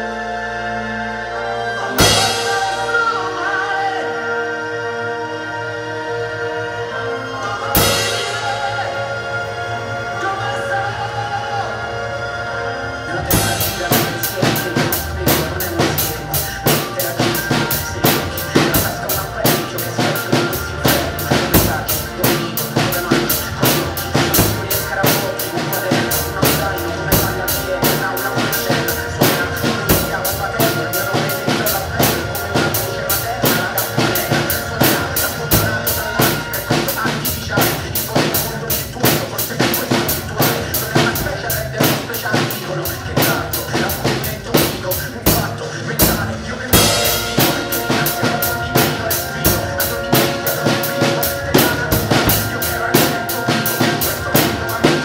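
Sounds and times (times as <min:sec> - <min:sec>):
backing track with sustained notes: 0:00.0 - 0:55.0
drum kit groove: 0:02.0 - 0:03.8, 0:07.7 - 0:09.0, 0:13.3 - 0:55.0.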